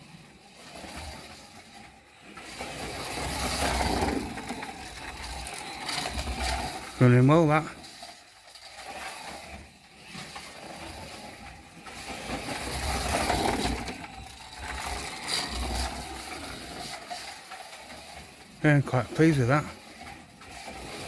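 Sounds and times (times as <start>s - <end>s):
slot car electric motor whirring: 0.0s - 21.0s
wheels running in slot: 0.0s - 21.0s.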